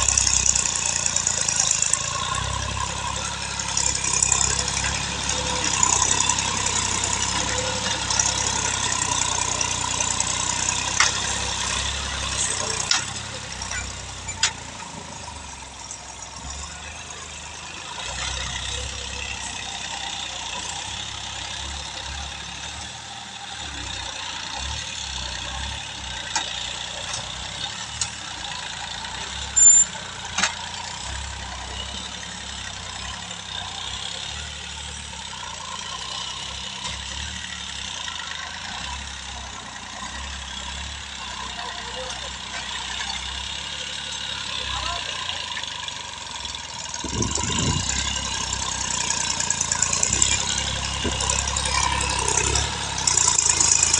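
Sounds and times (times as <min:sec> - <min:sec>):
tractor diesel engine: 0:00.0 - 0:53.9.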